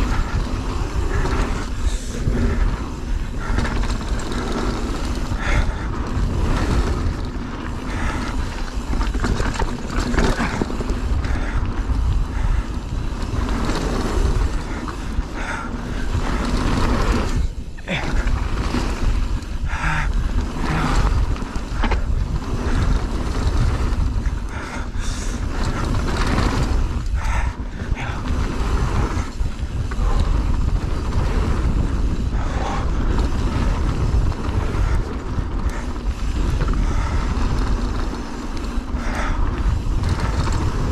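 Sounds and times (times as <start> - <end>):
bike rattling and knocking: 0.0 - 40.9
bike tyres on rough ground: 0.0 - 40.9
wind rumble on microphone: 0.0 - 40.9.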